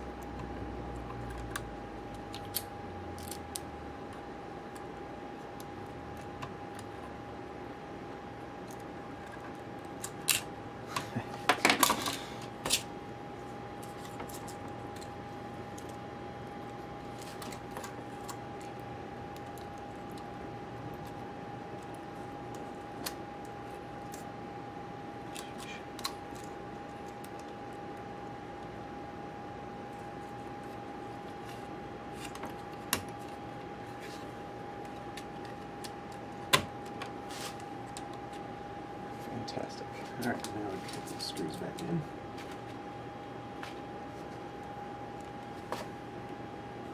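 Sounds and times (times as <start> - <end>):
thin steady whine: 0.0 - 46.9.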